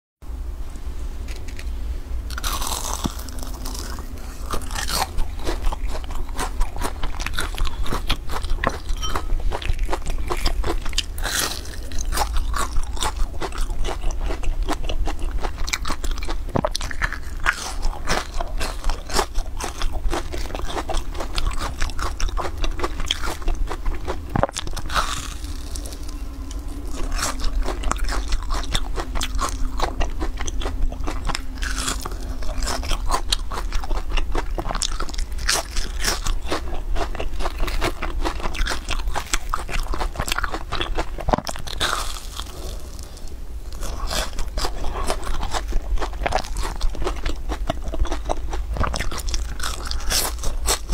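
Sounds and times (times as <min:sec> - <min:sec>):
crunching fried food: 0:01.2 - 0:01.7, 0:02.3 - 0:50.9.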